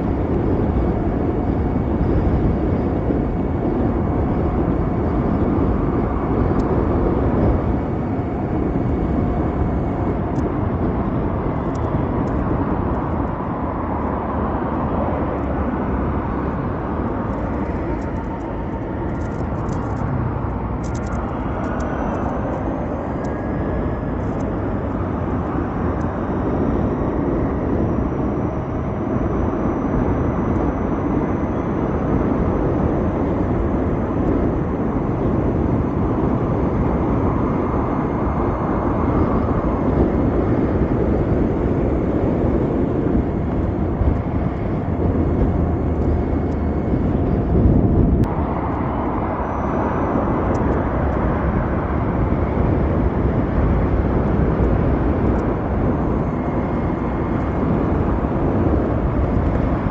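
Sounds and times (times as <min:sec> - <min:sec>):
tyre road noise: 0:00.0 - 0:59.9
wind buffeting microphone: 0:00.0 - 0:59.9.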